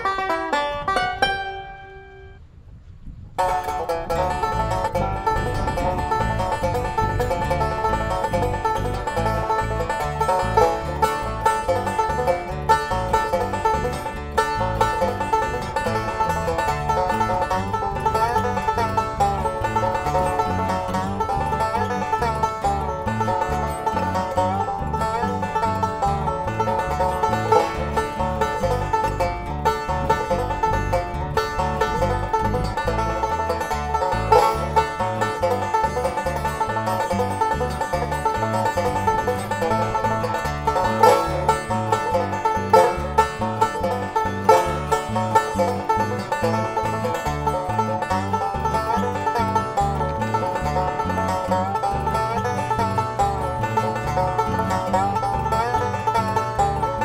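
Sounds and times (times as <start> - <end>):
banjo playing bluegrass: 0.0 - 2.4, 3.4 - 57.0
low bass line: 0.0 - 57.0.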